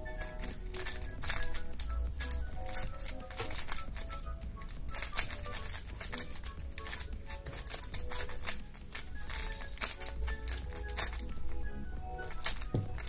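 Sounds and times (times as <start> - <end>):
background music: 0.0 - 13.0
speed cube clacking: 0.0 - 13.0.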